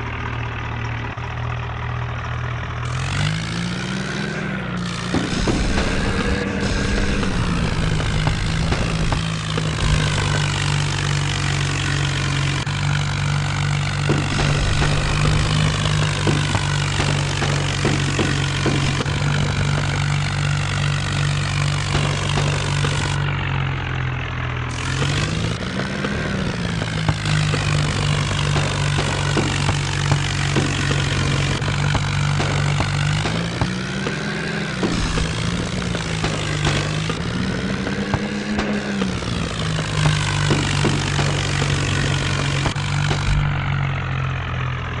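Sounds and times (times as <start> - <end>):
tractor diesel engine running: 0.0 - 45.0
knocks and rattles: 4.8 - 23.4, 24.7 - 44.1.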